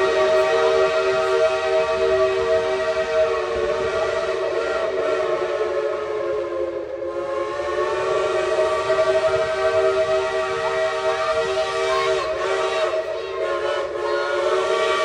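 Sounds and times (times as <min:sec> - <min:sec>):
steam locomotive whistle blast: 0:00.0 - 0:15.0.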